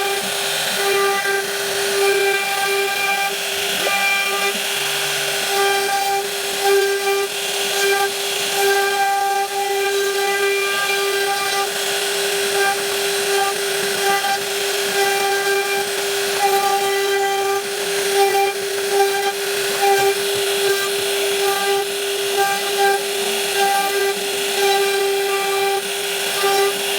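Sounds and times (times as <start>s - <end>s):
router spindle whining: 0.0s - 26.9s.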